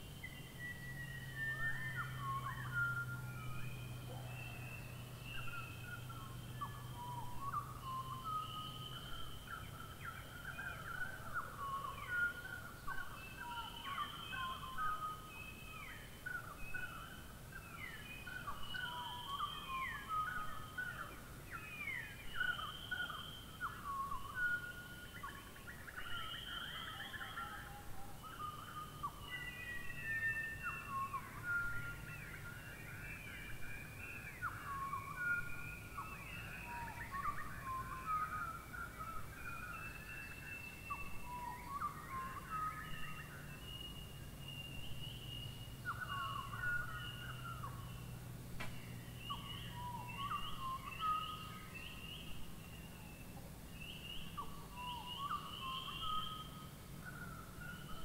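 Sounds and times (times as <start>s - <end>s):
birds whistling and chirping: 0.0s - 58.0s.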